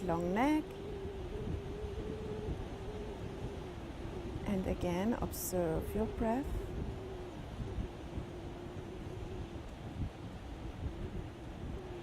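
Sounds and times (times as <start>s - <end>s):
faint steady hum: 0.0s - 12.0s
wind buffeting microphone: 0.0s - 12.0s.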